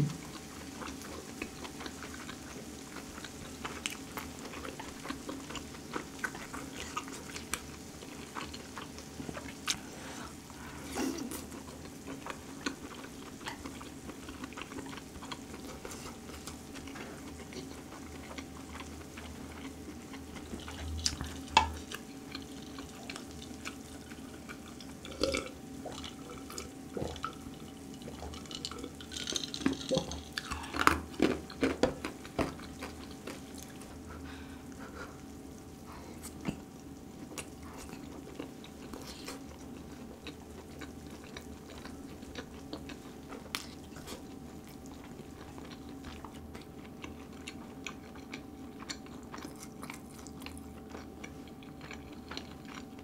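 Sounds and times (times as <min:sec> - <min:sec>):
chewing and wet mouth sounds: 0:00.0 - 0:53.0
faint steady hum: 0:00.0 - 0:53.0.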